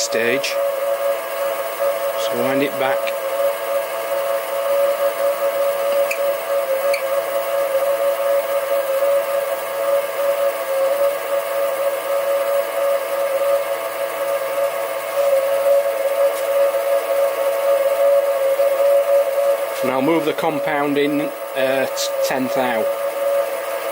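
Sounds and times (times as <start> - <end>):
lathe motor whining: 0.0 - 23.9.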